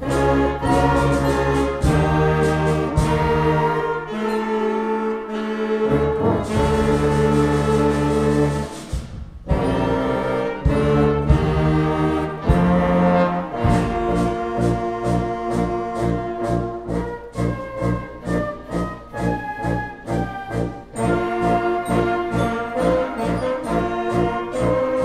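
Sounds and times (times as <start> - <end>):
concert band playing: 0.0 - 25.0.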